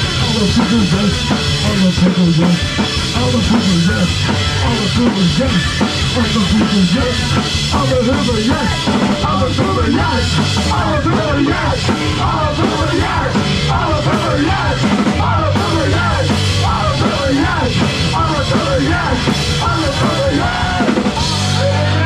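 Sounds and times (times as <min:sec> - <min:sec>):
live rock band playing: 0:00.0 - 0:22.0
person singing and yelling: 0:00.0 - 0:22.0.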